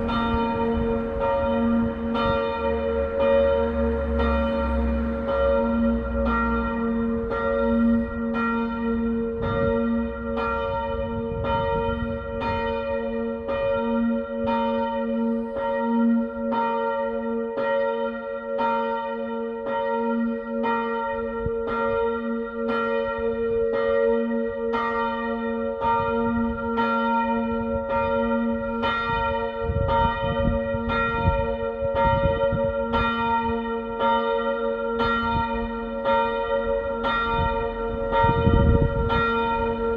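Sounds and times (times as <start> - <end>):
church bells ringing: 0.0 - 39.9
hum of overlapping bell tones: 0.0 - 39.9.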